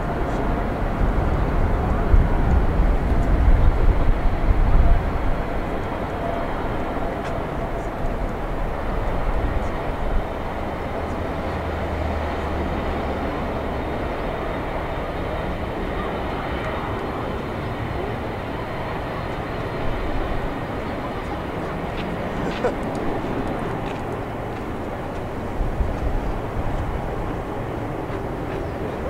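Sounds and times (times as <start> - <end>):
distant jet engines at takeoff: 0.0 - 29.0.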